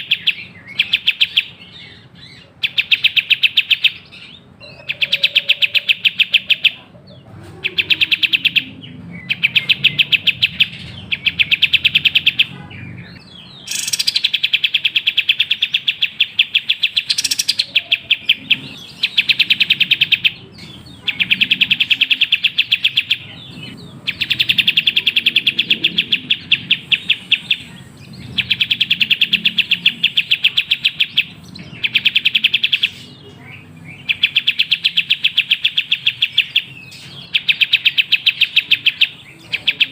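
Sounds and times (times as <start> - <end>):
bulbul singing rapid chirps: 0.0 - 39.9.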